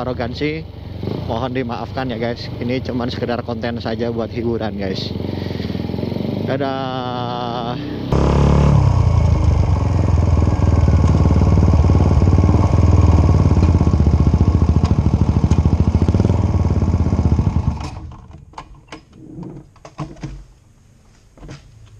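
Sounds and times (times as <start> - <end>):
motorcycle engine idling: 0.0 - 18.1
engine winding down: 0.0 - 18.2.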